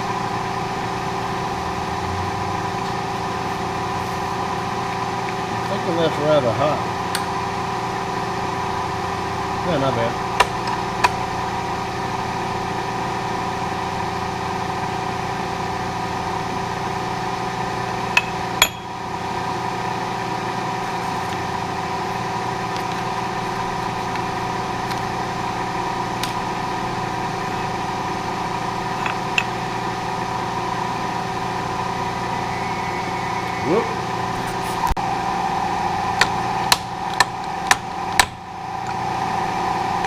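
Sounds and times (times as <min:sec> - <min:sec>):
milling machine running: 0:00.0 - 0:40.0.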